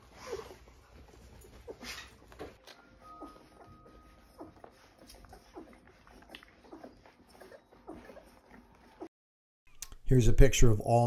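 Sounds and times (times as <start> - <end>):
puppies squeaking and whimpering: 0.0 - 9.1.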